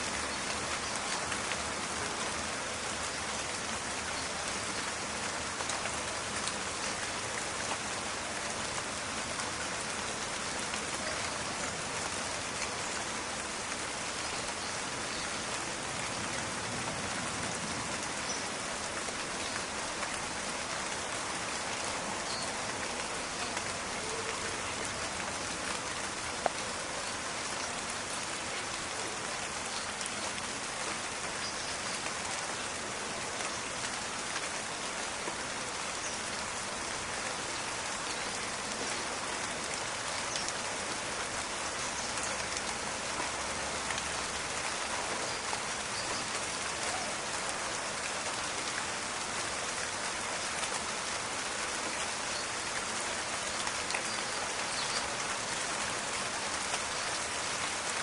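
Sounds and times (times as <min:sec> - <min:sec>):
steady rain in a forest: 0:00.0 - 0:58.0.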